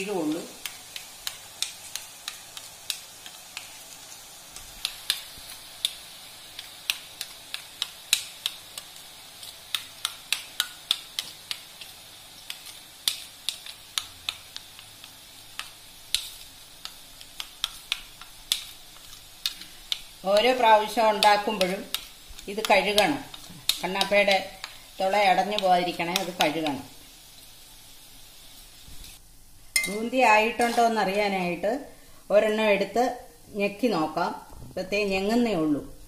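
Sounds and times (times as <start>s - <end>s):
oil sizzling: 0.0s - 36.0s.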